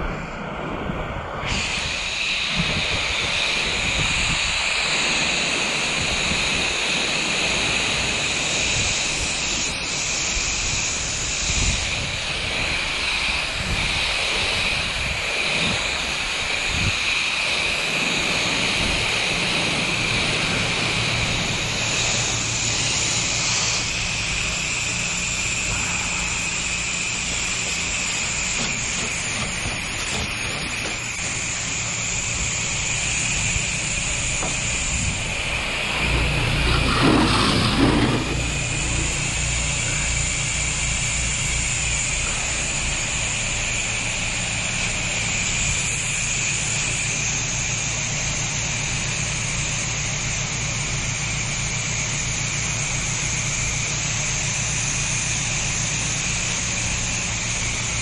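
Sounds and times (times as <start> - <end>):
low machine hum: 0.0 - 58.0
pressure washer jet hissing: 1.3 - 58.0.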